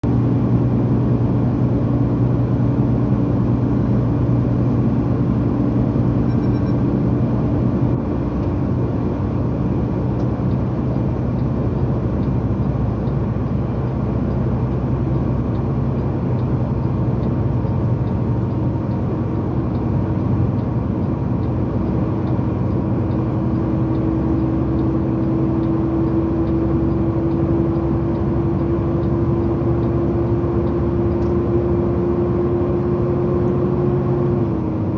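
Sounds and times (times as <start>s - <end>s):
road noise: 0.0s - 34.9s
vehicle engine hum: 0.0s - 34.9s.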